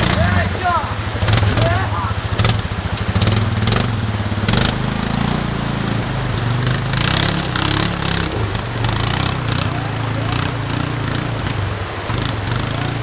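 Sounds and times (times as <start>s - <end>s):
quad engine running under load: 0.0s - 13.0s.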